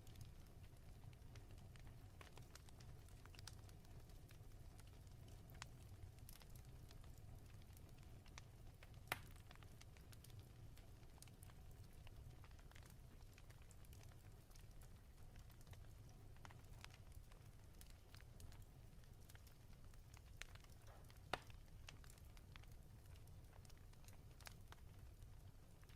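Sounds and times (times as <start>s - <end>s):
fire crackling: 0.0s - 25.9s.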